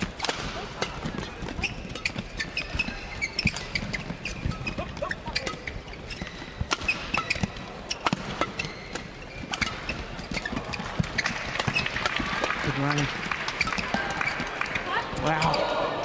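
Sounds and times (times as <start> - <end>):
rackets striking shuttlecock: 0.0 - 14.5
shoes squeaking on court: 0.0 - 16.0.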